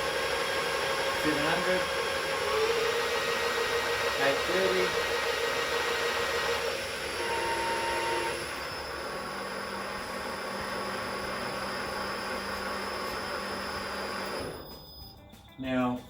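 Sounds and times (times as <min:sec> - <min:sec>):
metal lathe whirring: 0:00.0 - 0:15.0.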